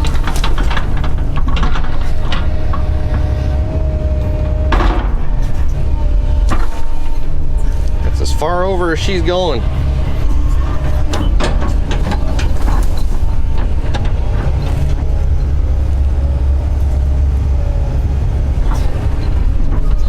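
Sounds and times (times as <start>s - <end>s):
excavator engine rumbling: 0.0s - 20.0s
tree cracking and clunking: 0.0s - 20.0s.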